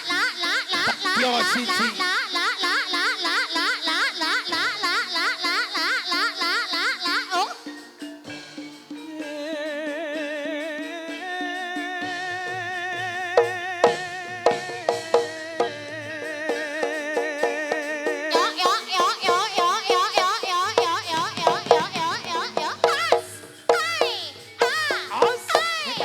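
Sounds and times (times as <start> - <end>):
high wavering melody: 0.0 - 12.0, 12.6 - 26.0
drumming: 0.0 - 26.0
wavering held melody: 0.0 - 26.0.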